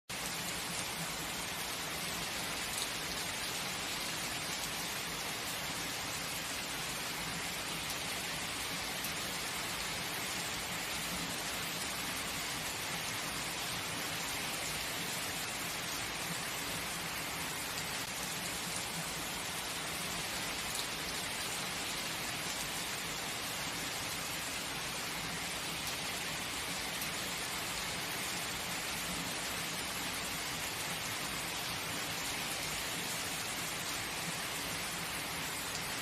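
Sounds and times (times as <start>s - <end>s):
heavy rainfall: 0.1s - 36.0s.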